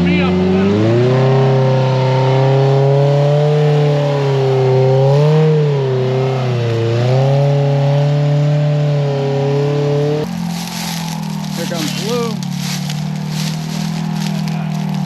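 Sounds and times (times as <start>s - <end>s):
engine revving high: 0.0s - 15.0s.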